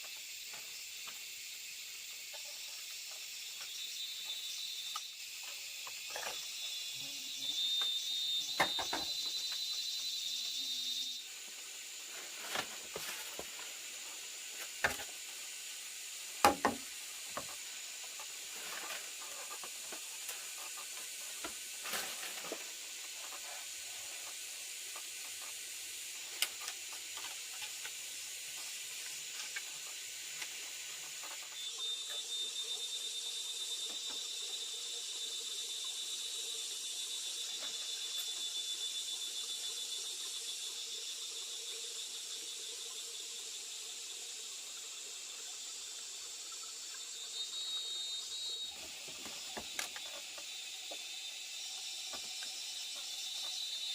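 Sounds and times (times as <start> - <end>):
steady high hiss: 0.0 - 53.9.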